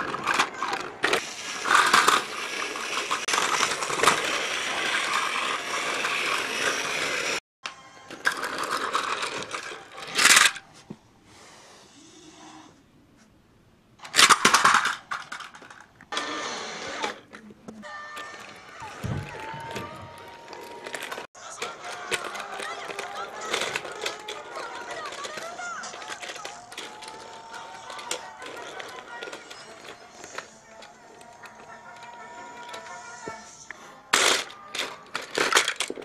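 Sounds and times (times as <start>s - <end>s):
toy train motors whirring: 0.0s - 7.4s, 8.1s - 10.6s, 14.0s - 36.0s
toy train wheels rattling: 0.0s - 7.4s, 8.2s - 10.6s, 14.0s - 17.2s, 18.1s - 36.0s.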